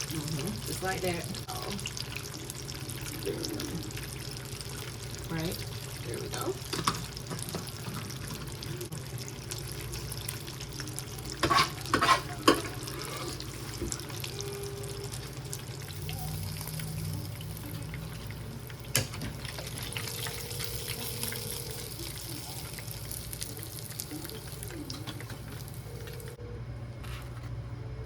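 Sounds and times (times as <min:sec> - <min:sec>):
chicken frying in a pan: 0:00.0 - 0:26.4.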